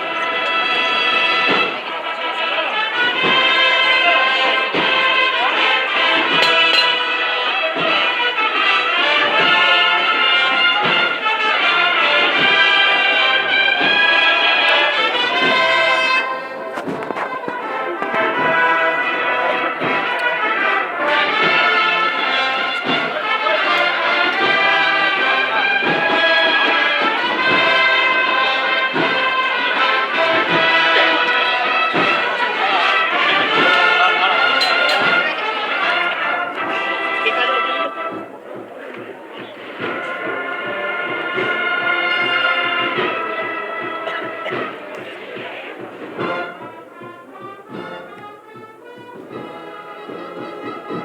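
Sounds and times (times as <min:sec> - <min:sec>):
brass band playing a march: 0:00.0 - 0:51.0
drum beats: 0:00.0 - 0:51.0.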